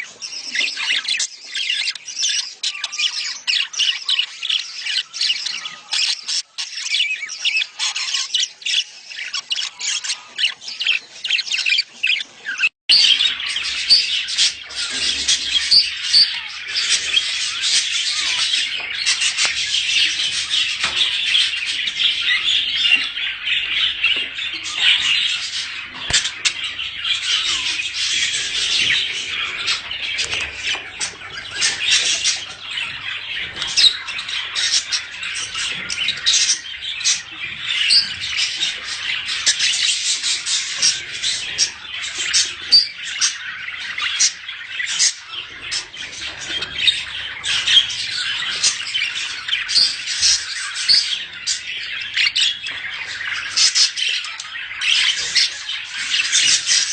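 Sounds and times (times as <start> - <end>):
budgerigar flock chattering: 0.0 - 56.9.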